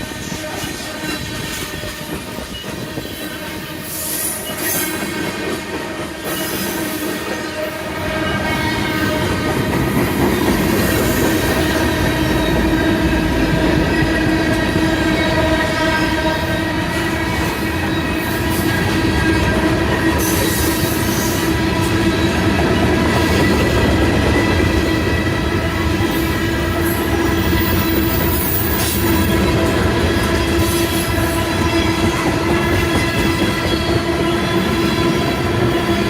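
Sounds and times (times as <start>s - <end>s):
freight train rumble and clatter: 0.0s - 36.0s
train wheels squealing: 0.0s - 36.0s.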